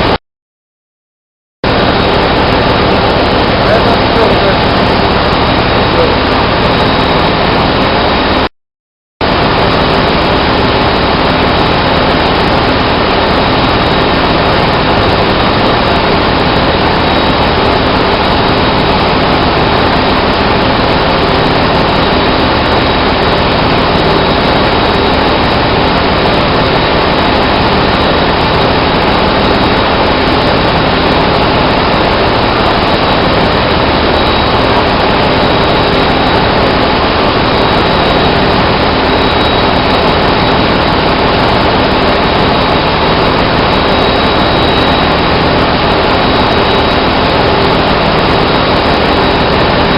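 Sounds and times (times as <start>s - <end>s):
engine-room machinery drone: 1.6s - 8.5s, 9.2s - 49.9s
thin high whine: 1.7s - 8.5s, 9.2s - 49.9s.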